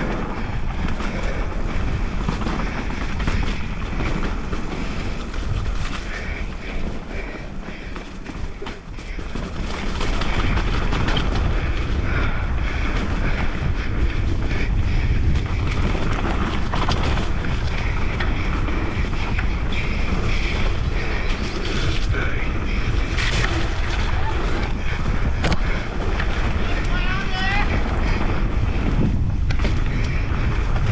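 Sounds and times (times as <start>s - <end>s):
bike knocks and rattles: 0.0s - 30.9s
wind rushing over microphone: 0.0s - 30.9s.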